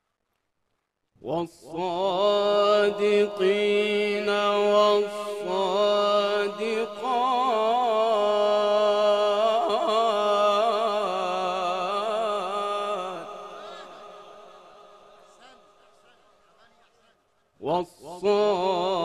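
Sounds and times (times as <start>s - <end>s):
man chanting melodically: 1.2s - 19.0s.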